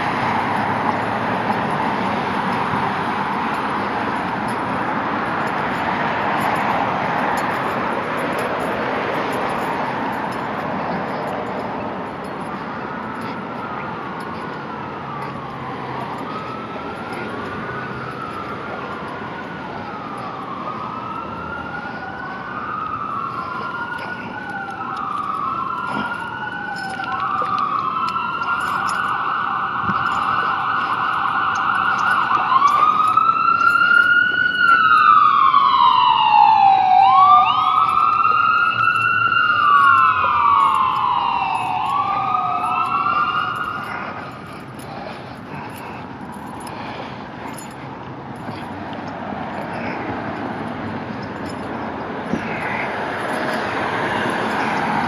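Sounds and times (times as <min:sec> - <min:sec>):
emergency vehicle siren wailing: 0:00.0 - 0:55.0.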